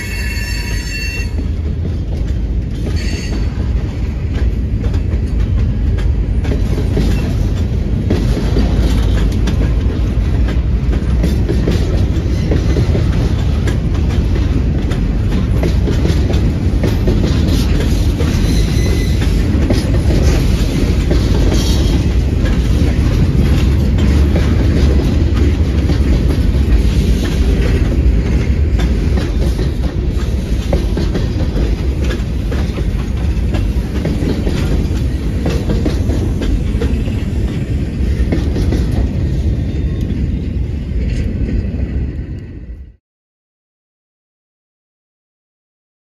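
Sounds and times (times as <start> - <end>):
freight train wheels clicking on rails: 0.0 - 42.9.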